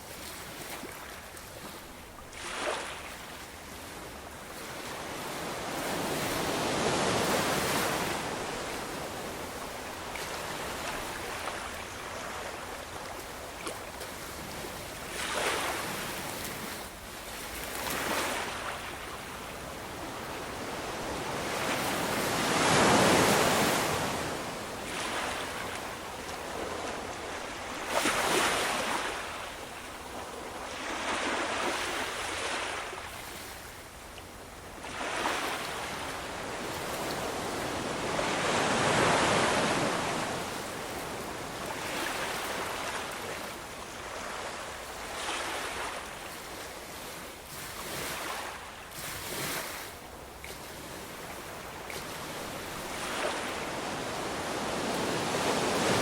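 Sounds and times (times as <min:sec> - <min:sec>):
ocean waves breaking: 0:02.2 - 0:14.1, 0:17.4 - 0:19.1, 0:20.0 - 0:33.5, 0:34.8 - 0:56.0.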